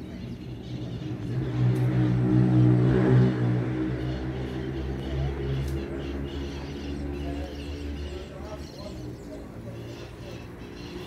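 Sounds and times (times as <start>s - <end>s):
passing engine hum: 0.0s - 11.0s.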